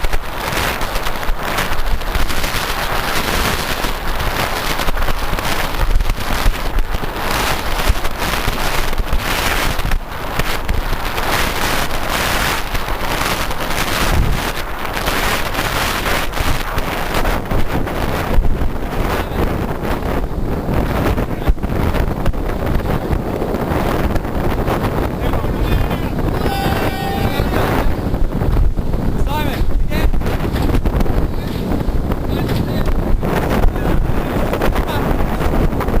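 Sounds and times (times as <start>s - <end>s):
crackling: 0.0s - 36.0s
motorboat low rumble: 0.0s - 36.0s
wind buffeting microphone: 0.0s - 36.0s.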